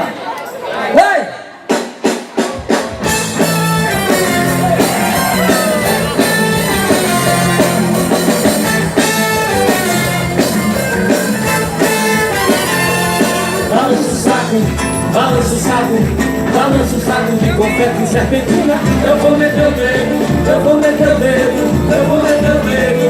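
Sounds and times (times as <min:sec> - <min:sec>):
live band playing dance music: 0:01.0 - 0:23.0
steady drum beat: 0:01.7 - 0:23.0.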